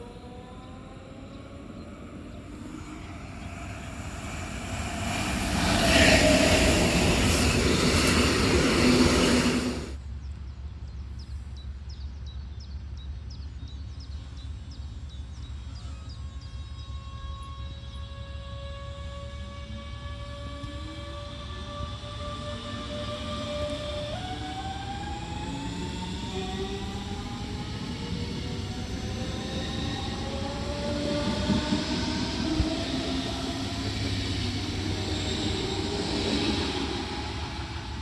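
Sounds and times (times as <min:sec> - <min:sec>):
electric train passing: 0:00.0 - 0:10.0, 0:16.9 - 0:38.0
rising electric whine: 0:00.0 - 0:10.0, 0:16.9 - 0:38.0.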